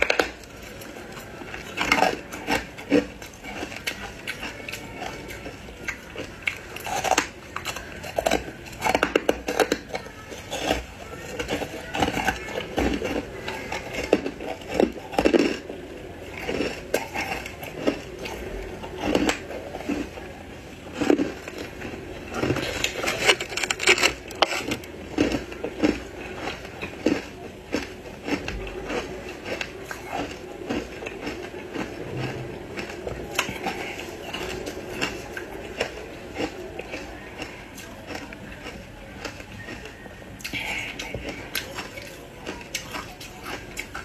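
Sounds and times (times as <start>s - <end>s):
ice crunching being chewed: 0.0s - 44.0s.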